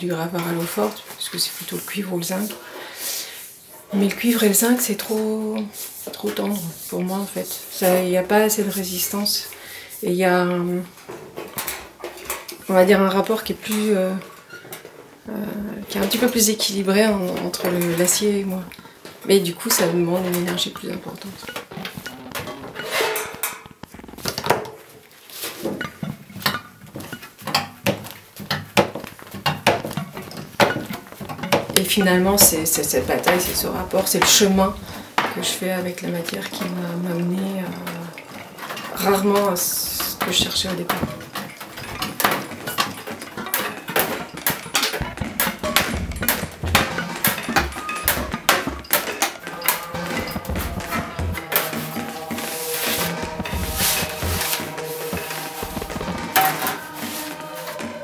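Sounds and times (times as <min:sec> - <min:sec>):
thin steel sheet crackling: 0:10.5 - 0:58.0.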